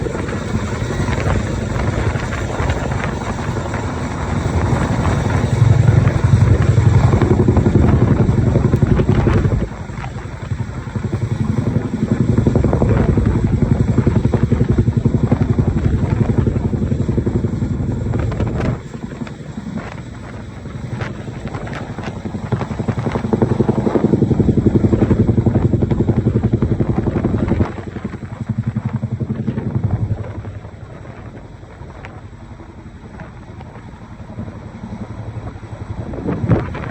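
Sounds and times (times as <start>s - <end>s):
helicopter rotors chopping: 0.0s - 36.9s.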